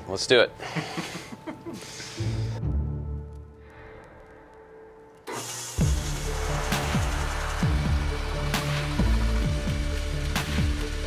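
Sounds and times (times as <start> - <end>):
background music low notes: 0.0 - 11.0.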